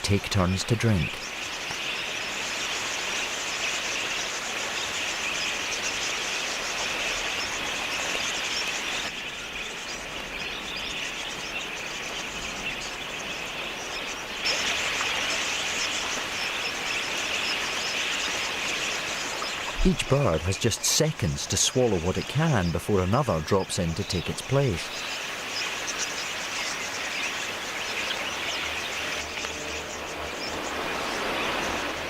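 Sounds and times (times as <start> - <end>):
flock of budgerigars chattering: 0.0 - 32.0.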